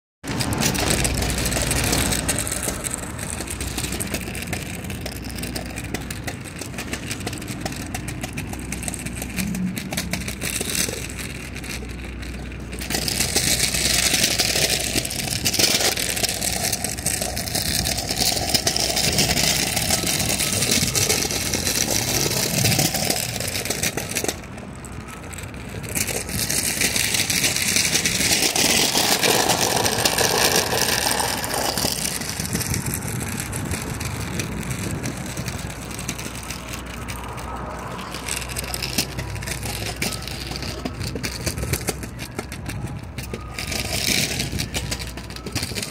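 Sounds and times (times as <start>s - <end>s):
scooter wheels rattling over concrete: 0.2s - 45.9s.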